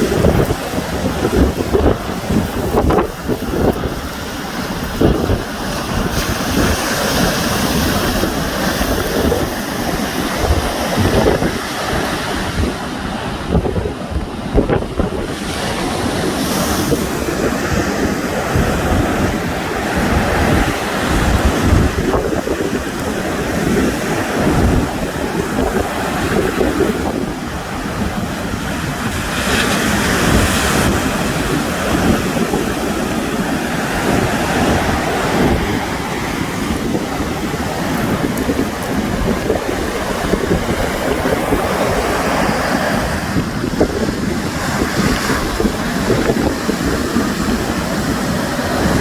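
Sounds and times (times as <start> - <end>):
sea waves washing on shore: 0.0 - 49.0
wind buffeting microphone: 0.0 - 49.0.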